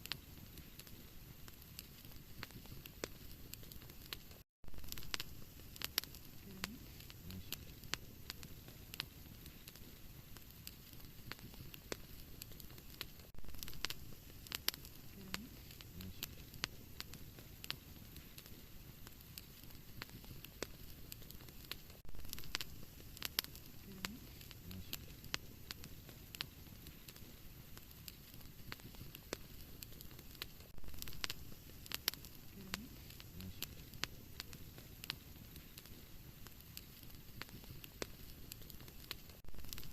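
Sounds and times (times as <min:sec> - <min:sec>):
fireplace fire crackling and popping: 0:00.0 - 0:39.9.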